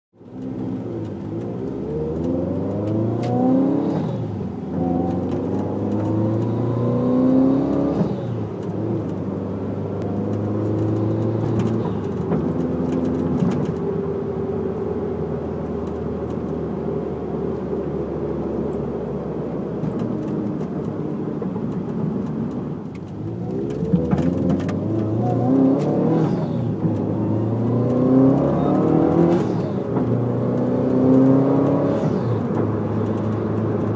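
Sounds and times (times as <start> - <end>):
car engine accelerating: 0.2 - 33.9.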